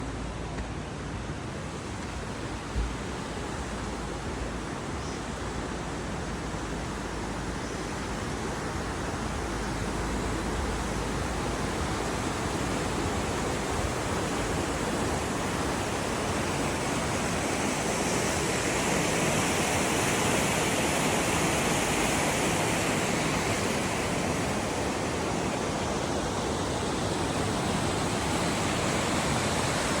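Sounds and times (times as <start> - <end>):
whitewater rapids rushing: 1.7 - 30.0.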